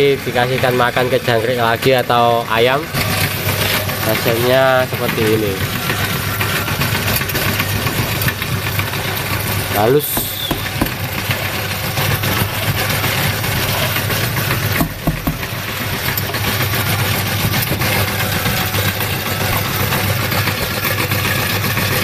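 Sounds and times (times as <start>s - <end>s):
meat grinder running: 0.0s - 22.0s.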